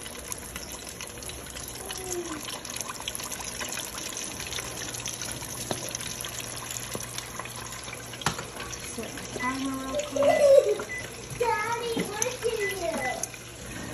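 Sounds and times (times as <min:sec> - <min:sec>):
chicken deep-frying in oil: 0:00.0 - 0:13.9
oil sizzling and crackling: 0:00.0 - 0:13.9.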